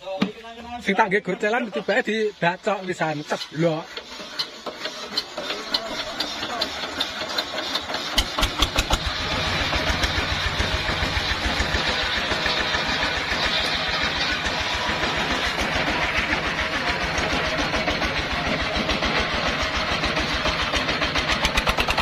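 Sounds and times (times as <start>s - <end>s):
small engine starting and running: 1.8s - 22.0s.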